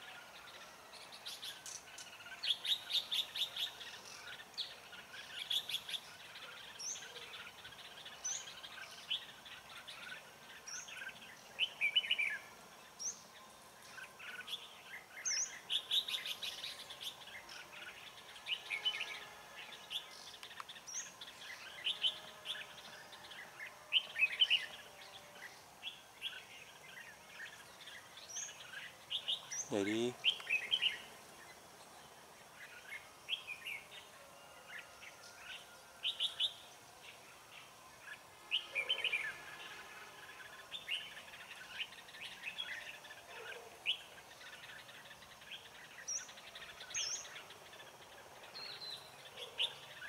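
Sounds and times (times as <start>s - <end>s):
birds chirping and warbling: 0.0s - 50.0s.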